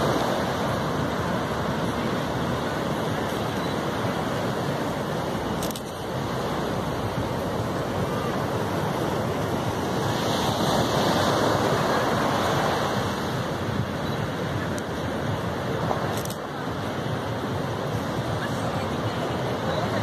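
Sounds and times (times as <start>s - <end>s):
waves crashing on beach: 0.0s - 20.0s.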